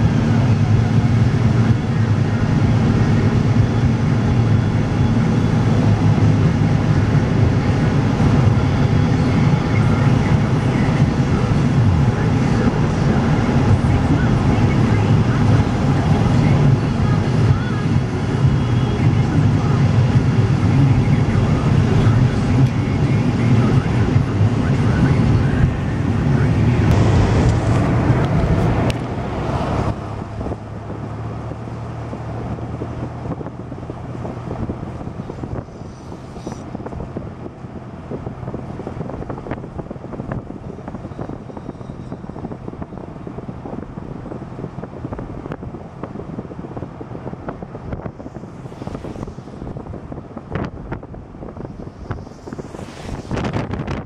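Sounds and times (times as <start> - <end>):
low engine hum: 0.0 - 54.0
road noise: 0.0 - 54.0
wind noise: 0.0 - 54.0.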